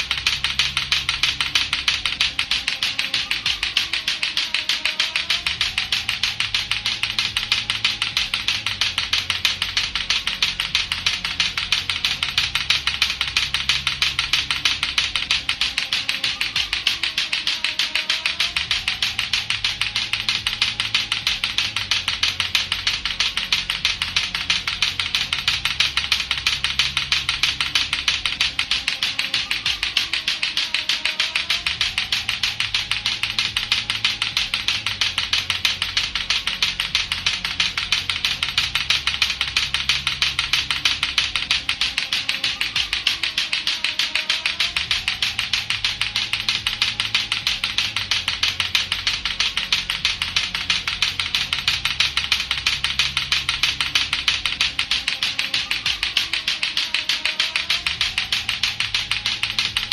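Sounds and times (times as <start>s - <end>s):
clacker toy balls clacking: 0.0s - 59.9s.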